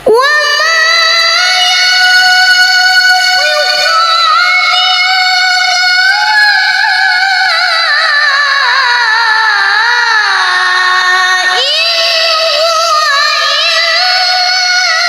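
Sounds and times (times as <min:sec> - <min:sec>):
child chanting recitation: 0:00.0 - 0:15.0.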